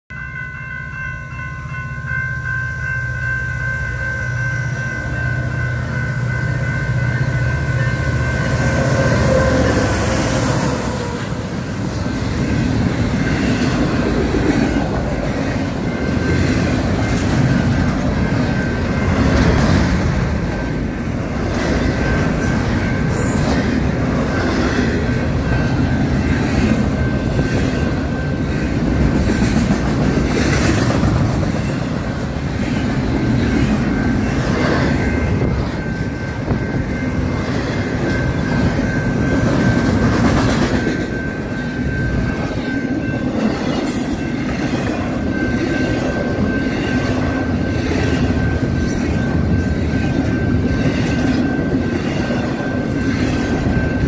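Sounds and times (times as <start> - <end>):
crossing bell ringing: 0.1 - 54.0
locomotive drone: 0.1 - 54.0.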